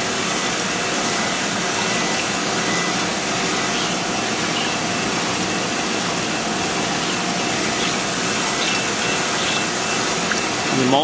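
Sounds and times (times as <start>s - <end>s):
grinder motors whirring: 0.0s - 11.0s.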